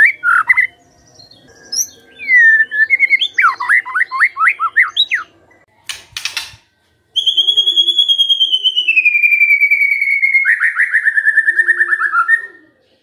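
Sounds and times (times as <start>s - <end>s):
bird singing whistled notes: 0.0s - 5.3s, 7.1s - 12.8s.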